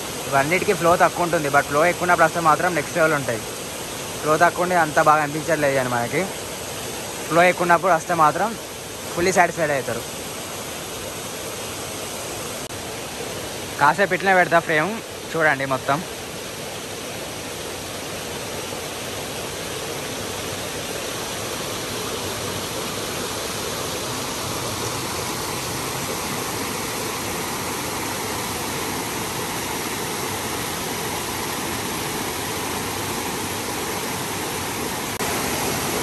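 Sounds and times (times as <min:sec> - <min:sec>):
waterfall rushing over rock: 0:00.0 - 0:36.0.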